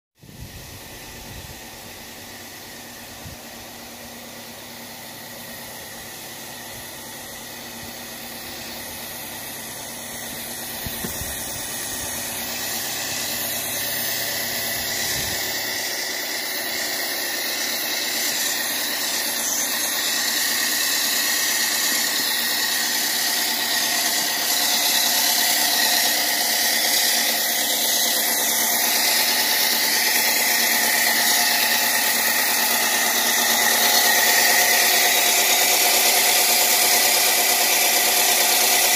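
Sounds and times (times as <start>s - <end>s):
power saw cutting rock: 0.4s - 38.9s.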